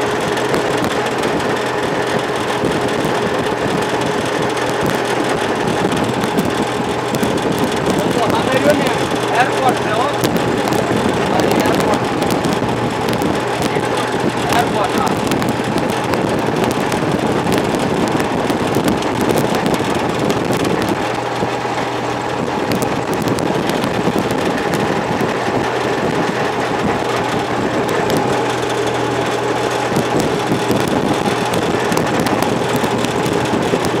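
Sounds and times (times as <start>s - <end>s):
tyre and wind noise: 0.0s - 34.0s
vehicle engine hum: 0.0s - 34.0s.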